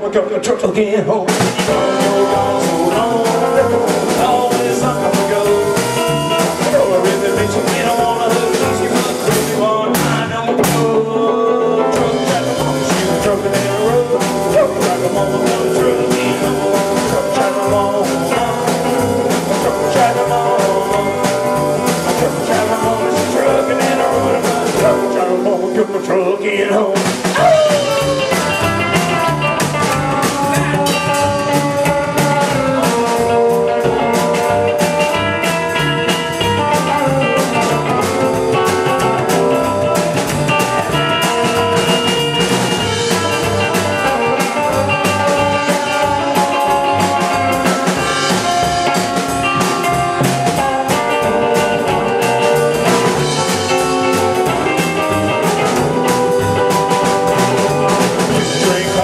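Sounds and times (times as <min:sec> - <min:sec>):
blues-rock band playing: 0:01.1 - 0:59.0
drum kit beat: 0:01.2 - 0:59.0
guitar notes: 0:01.6 - 0:26.4, 0:27.2 - 0:59.0.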